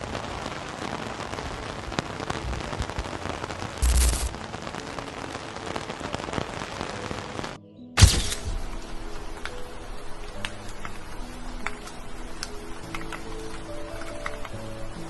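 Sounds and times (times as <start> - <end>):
rain falling steadily: 0.0 - 15.0.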